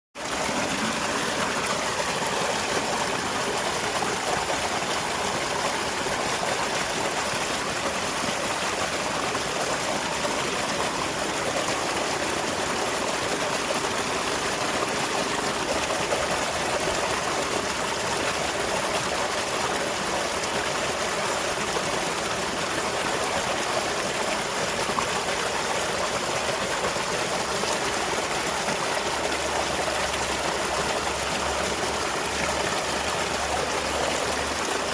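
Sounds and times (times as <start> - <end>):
small waterfall splashing: 0.2 - 34.9.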